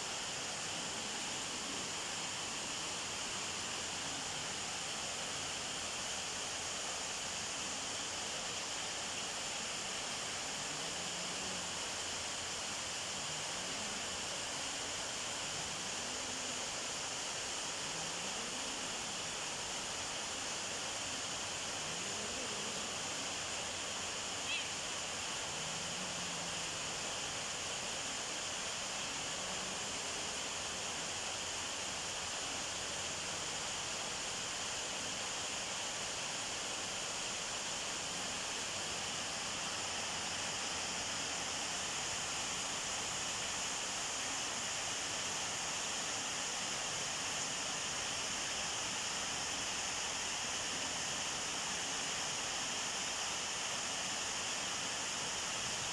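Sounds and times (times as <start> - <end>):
steady high hiss: 0.0 - 55.9.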